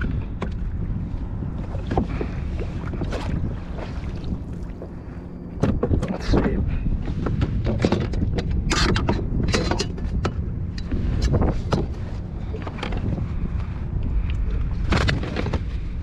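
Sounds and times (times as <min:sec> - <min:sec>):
wind rumble on microphone: 0:00.0 - 0:16.0
knocks and rustles of fish handling: 0:01.5 - 0:05.0, 0:05.6 - 0:16.0.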